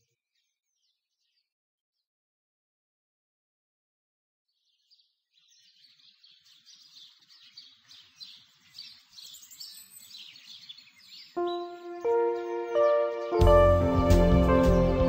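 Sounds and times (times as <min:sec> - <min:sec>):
songbirds chirping: 0:00.0 - 0:02.1, 0:04.5 - 0:15.0.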